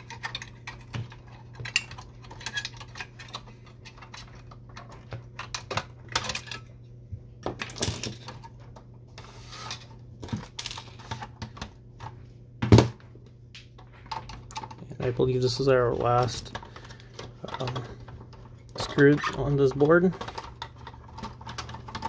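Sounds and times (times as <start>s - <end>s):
plastic parts clicking and rattling: 0.0s - 6.7s, 7.4s - 8.9s, 9.7s - 12.2s, 13.8s - 22.0s.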